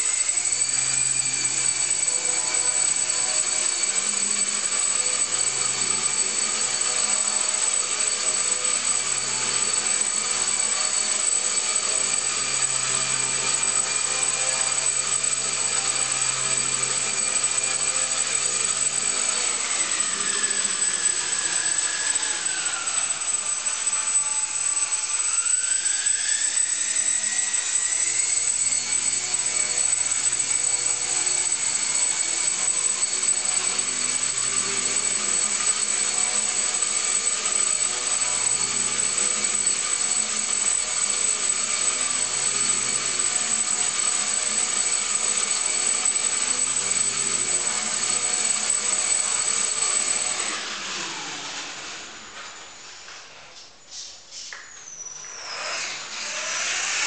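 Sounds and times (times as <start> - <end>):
electric motor propeller whine: 0.0 - 53.3, 54.9 - 57.0.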